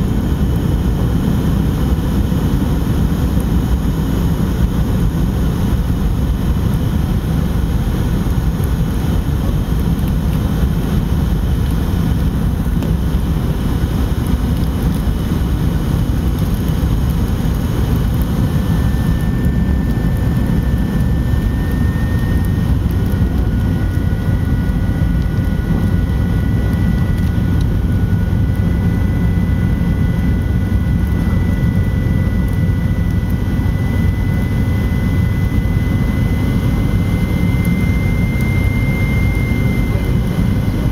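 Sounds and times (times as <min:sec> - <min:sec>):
airliner cabin roar: 0:00.0 - 0:40.9
thin jet engine whine: 0:00.0 - 0:40.9.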